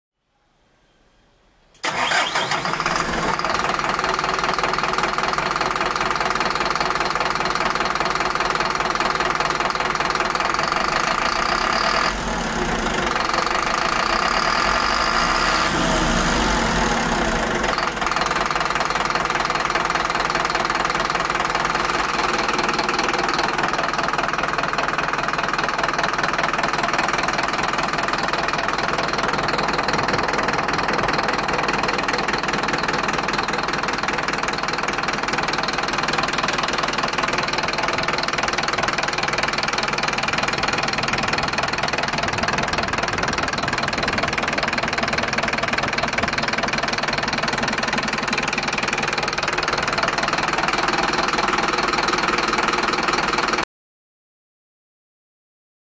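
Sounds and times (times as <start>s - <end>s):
diesel engine idling: 1.8s - 53.6s.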